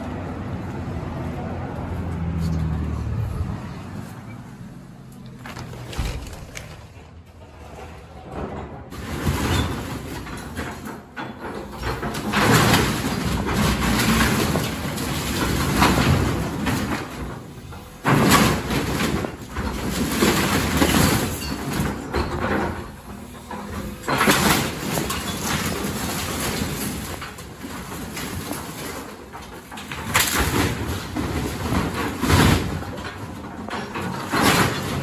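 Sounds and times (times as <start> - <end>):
excavator machine noise: 0.0 - 35.0
crashing of breaking debris: 5.3 - 35.0.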